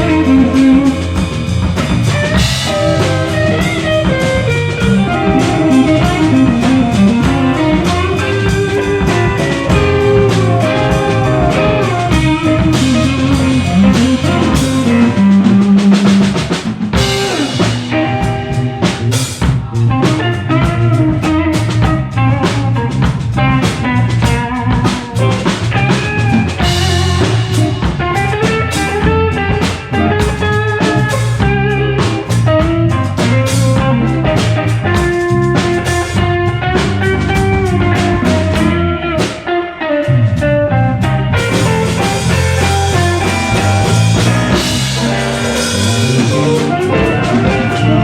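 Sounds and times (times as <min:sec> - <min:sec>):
drum kit: 0:00.0 - 0:48.0
electric bass: 0:00.0 - 0:48.0
electric guitar: 0:00.0 - 0:48.0.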